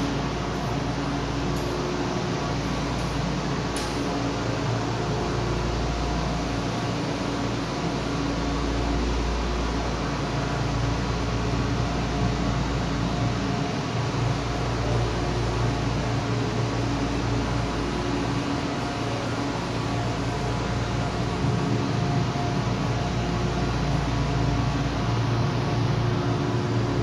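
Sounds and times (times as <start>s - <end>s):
train air conditioning hum: 0.0s - 27.0s.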